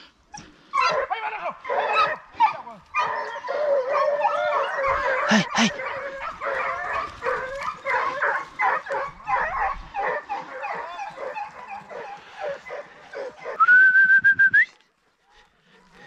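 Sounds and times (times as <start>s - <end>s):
hounds baying and yelping: 0.0s - 13.9s, 14.9s - 16.0s.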